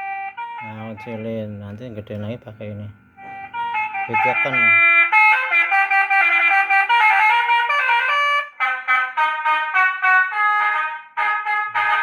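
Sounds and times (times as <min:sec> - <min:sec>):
electronic horn playing a tune: 0:00.0 - 0:01.7, 0:03.2 - 0:12.0.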